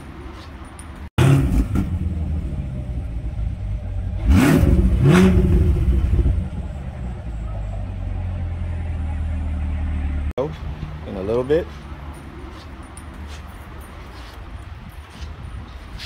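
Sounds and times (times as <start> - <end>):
sports car engine idling and revving: 0.0 - 16.0.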